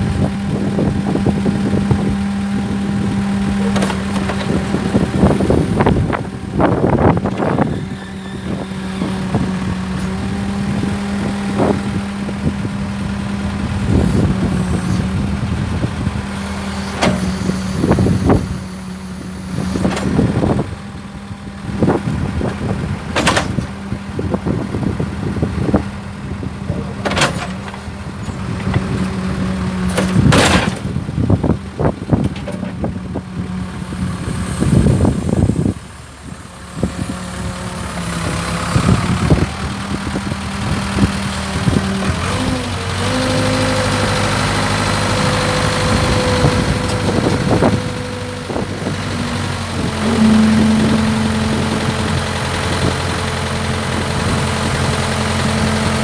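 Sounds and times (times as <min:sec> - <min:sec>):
loader backhoe engine running: 0:00.0 - 0:56.0.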